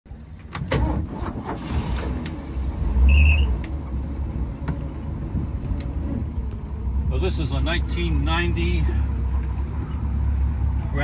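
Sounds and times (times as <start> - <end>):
boat engine low rumble: 0.1 - 11.0.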